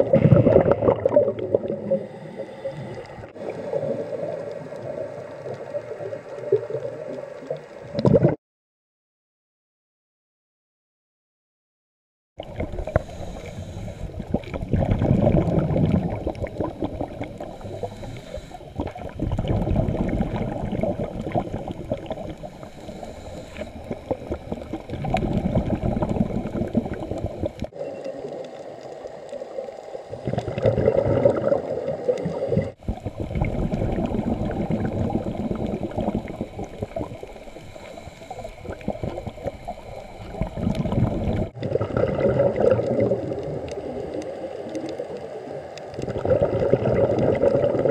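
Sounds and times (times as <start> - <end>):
underwater exhaled bubbles: 0.0 - 8.4, 12.4 - 47.9.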